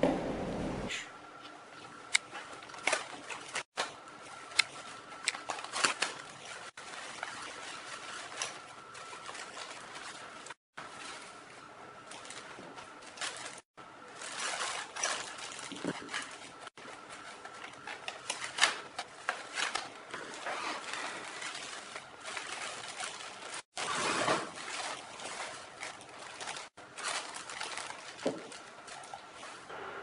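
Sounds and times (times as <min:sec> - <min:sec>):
plastic bags and foam rustling: 0:01.5 - 0:29.7.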